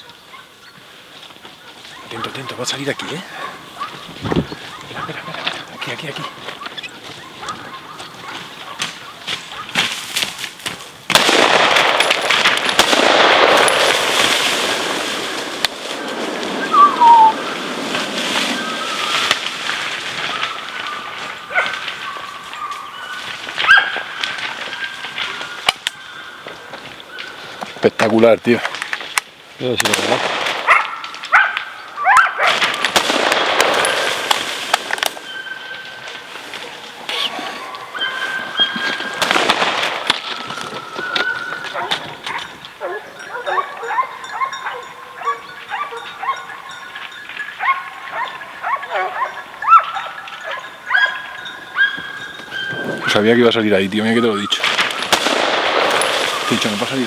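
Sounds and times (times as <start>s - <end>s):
dogs barking and yelping: 0.0s - 9.9s, 13.5s - 27.8s, 30.6s - 33.0s, 33.6s - 57.0s.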